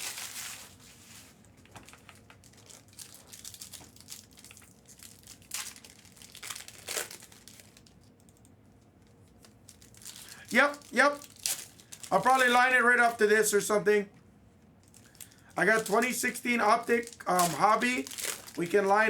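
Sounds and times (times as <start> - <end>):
wrapper rustling and tearing: 0.0 - 8.2, 9.3 - 13.2, 14.8 - 19.0
plastic wrappers crinkling: 0.0 - 13.6, 14.8 - 19.0.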